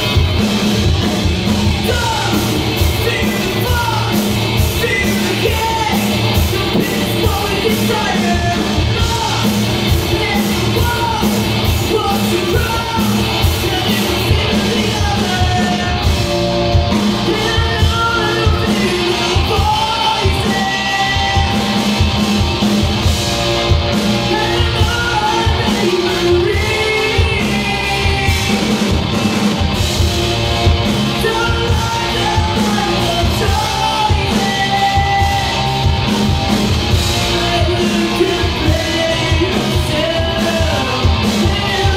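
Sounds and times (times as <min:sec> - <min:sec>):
rock band playing live: 0:00.0 - 0:41.9
person singing: 0:01.7 - 0:16.3, 0:17.1 - 0:21.9, 0:24.1 - 0:28.9, 0:31.0 - 0:35.9, 0:37.1 - 0:41.9.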